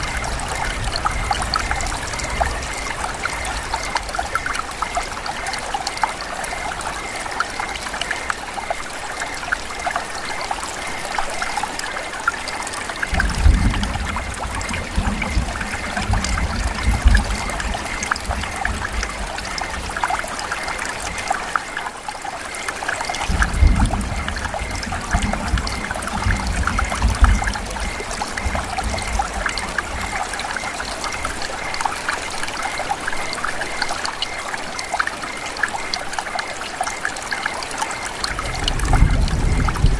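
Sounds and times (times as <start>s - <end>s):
steady rain falling: 0.0s - 39.9s
trickling water: 0.0s - 39.9s.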